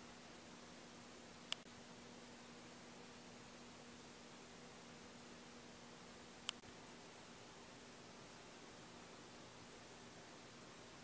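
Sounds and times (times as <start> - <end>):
faint low hum: 0.0 - 11.0
faint steady hiss: 0.0 - 11.0.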